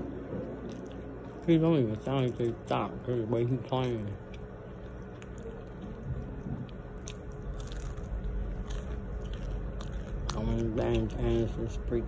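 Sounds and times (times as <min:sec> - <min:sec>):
low steady rumble: 0:00.0 - 0:12.0
person chewing crunchy snack: 0:00.6 - 0:11.8.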